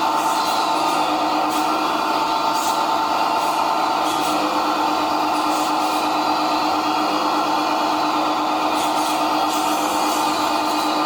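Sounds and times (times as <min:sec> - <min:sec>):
toy excavator motor whine: 0:00.0 - 0:11.0.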